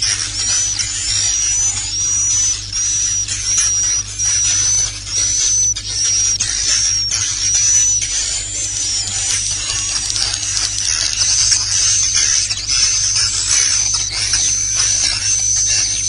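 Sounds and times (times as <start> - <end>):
buzzy bird twittering: 0.0 - 16.0
faint steady hum: 0.0 - 16.0.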